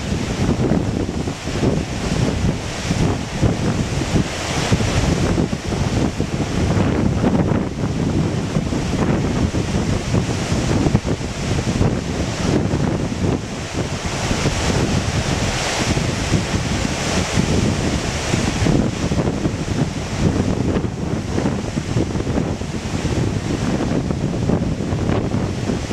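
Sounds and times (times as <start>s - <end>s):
whitewater rapids rushing: 0.0s - 25.9s
wind buffeting microphone: 0.0s - 25.9s.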